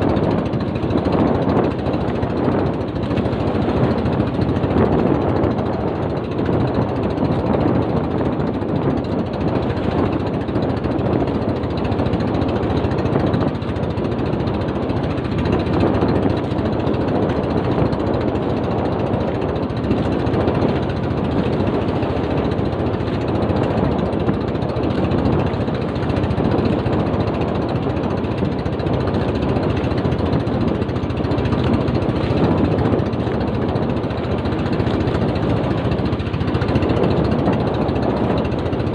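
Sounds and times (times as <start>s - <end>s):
boat engine chugging: 0.0s - 38.9s.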